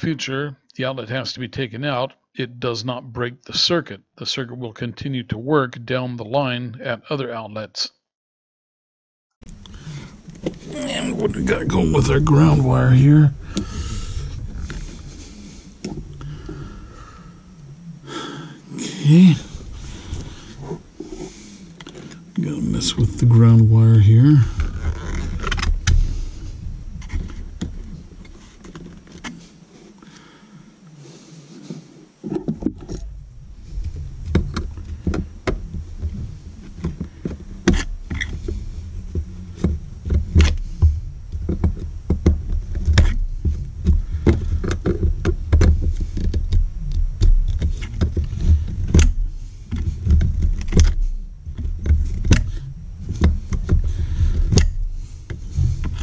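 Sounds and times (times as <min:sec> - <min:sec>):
low rumbling handling noise: 0:09.4 - 0:30.2, 0:31.2 - 0:56.0.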